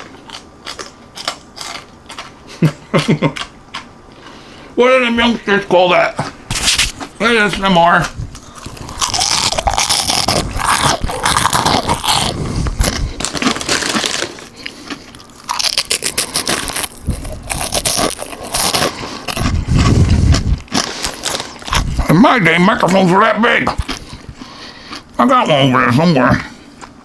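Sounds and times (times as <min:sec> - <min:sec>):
crunching and chewing: 0:00.0 - 0:04.8, 0:06.0 - 0:27.0.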